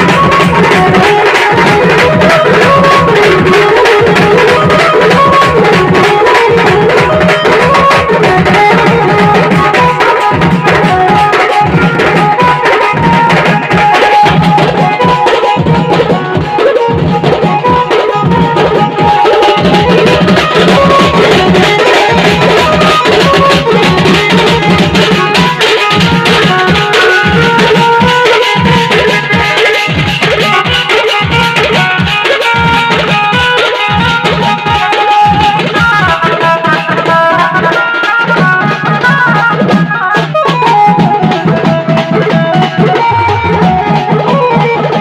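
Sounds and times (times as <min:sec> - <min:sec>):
driving drum rhythm: 0:00.0 - 0:45.0
wedding band music: 0:00.0 - 0:45.0.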